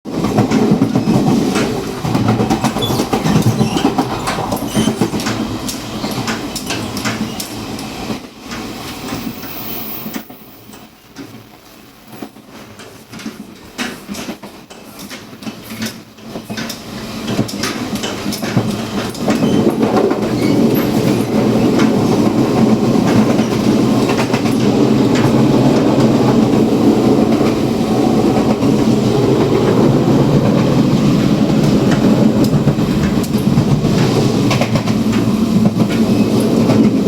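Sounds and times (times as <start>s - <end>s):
train rumbling with rapid clicks: 0.1s - 37.0s.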